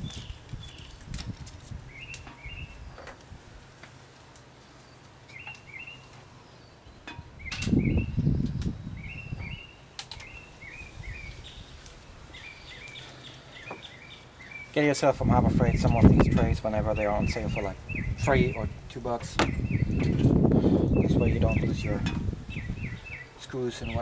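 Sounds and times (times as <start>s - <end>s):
faint background noise: 0.0s - 24.0s
bird chirping paired notes: 1.9s - 3.0s, 4.8s - 24.0s.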